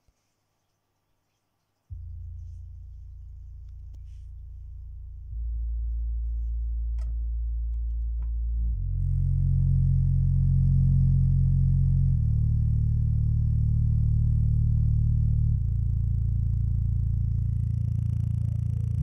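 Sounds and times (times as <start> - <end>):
deep bass tones from woofers: 1.9 - 19.0.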